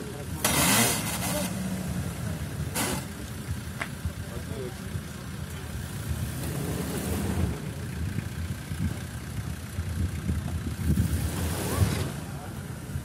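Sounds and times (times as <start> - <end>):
suv engine rumbling: 0.0 - 13.0.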